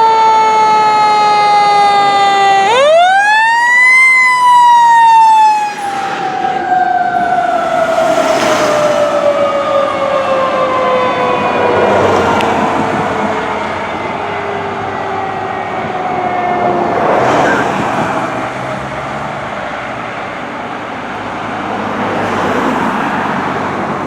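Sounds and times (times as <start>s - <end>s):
fire engine siren winding down: 0.0s - 24.0s
road noise from passing vehicles: 0.0s - 24.0s.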